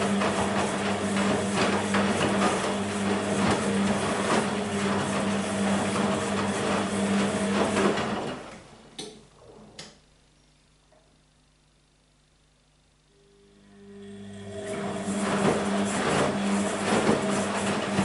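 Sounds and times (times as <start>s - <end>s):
washing machine motor humming: 0.0s - 10.0s, 13.0s - 18.0s.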